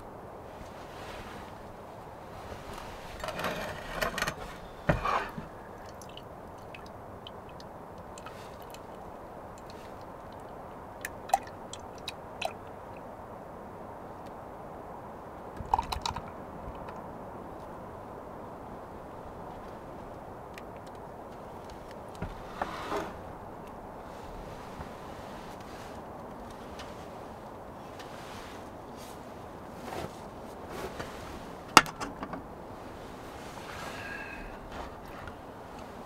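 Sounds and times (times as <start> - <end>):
steady hiss: 0.0 - 15.6, 16.3 - 36.0.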